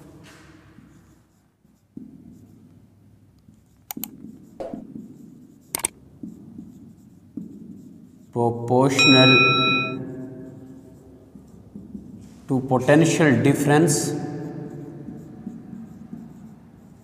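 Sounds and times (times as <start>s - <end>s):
marker scratching on whiteboard: 0.7s - 12.4s, 13.0s - 17.0s.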